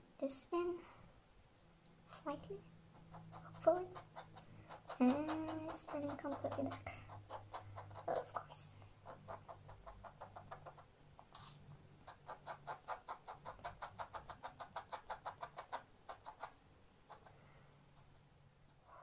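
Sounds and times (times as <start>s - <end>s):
pen nib scratching on paper: 2.9s - 19.0s.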